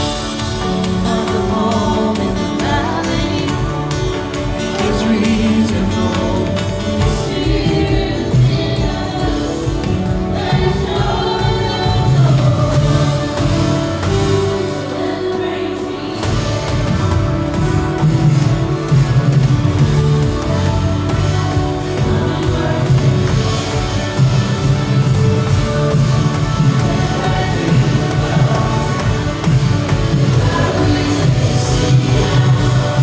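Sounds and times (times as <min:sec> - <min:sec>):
several people singing: 0:00.0 - 0:33.0
worship band playing live: 0:00.0 - 0:33.0.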